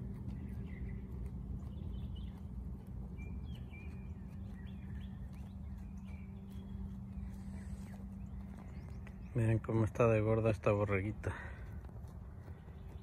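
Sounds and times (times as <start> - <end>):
low hum and rumble: 0.0 - 13.0
small birds chirping: 0.0 - 13.0.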